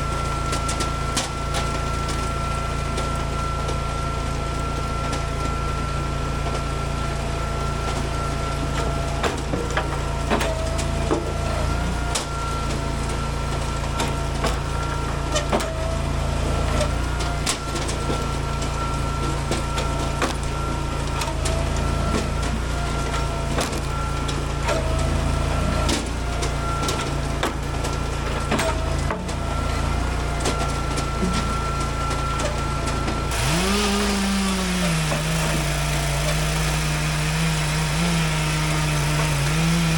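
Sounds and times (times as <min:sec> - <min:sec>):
hydraulic log splitter engine: 0:00.0 - 0:39.9.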